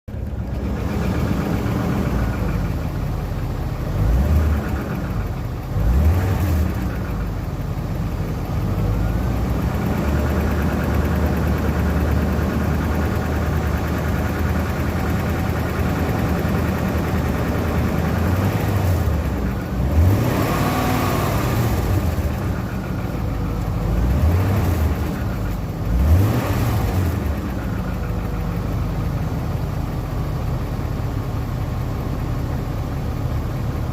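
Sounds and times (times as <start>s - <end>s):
car engine idling and revving: 0.1s - 33.9s
engine rattle: 0.1s - 33.9s.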